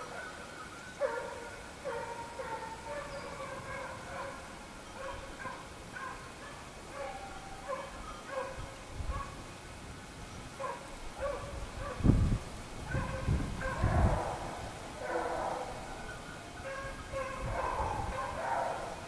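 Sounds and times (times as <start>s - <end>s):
hounds baying in the distance: 0.0s - 9.5s, 10.6s - 12.2s, 12.8s - 19.0s.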